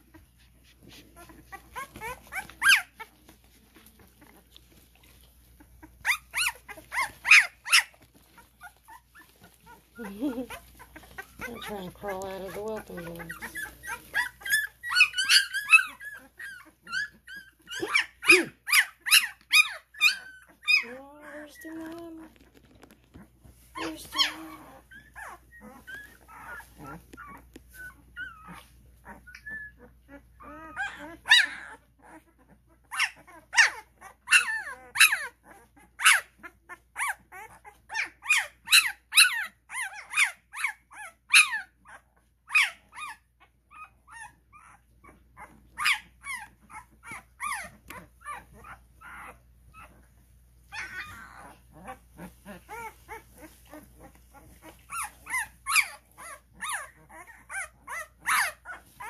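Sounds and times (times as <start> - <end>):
puppies squealing and whimpering: 0.0 - 59.0.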